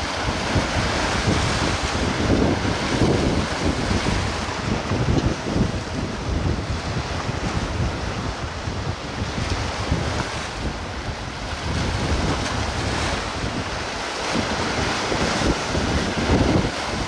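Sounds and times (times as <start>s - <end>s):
wind blowing on microphone: 0.0s - 17.0s.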